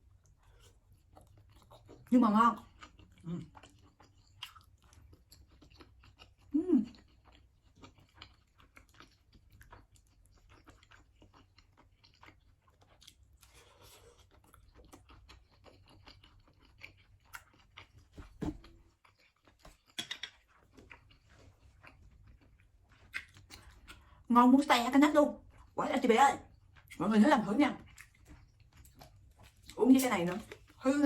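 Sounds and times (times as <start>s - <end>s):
close-up chewing with mouth clicks: 0.0s - 24.3s, 27.8s - 30.9s.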